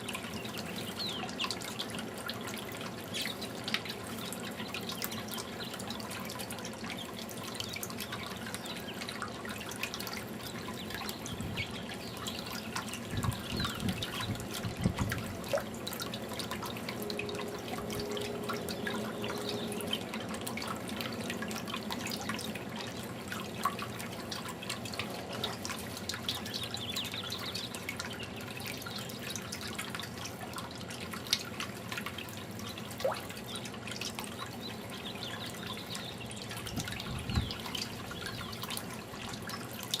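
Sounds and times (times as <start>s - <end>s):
fountain water trickling: 0.0s - 40.0s.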